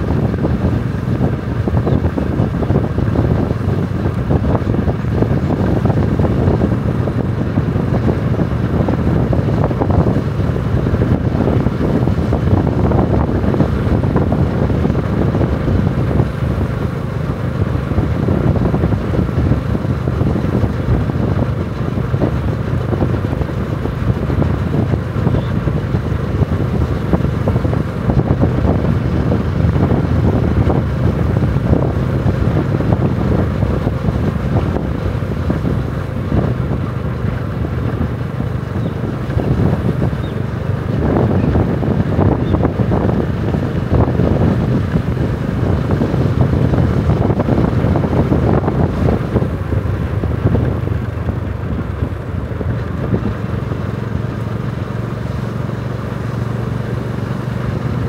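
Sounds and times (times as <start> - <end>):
vehicle engine rumbling: 0.0 - 58.0
wind on microphone: 0.0 - 58.0.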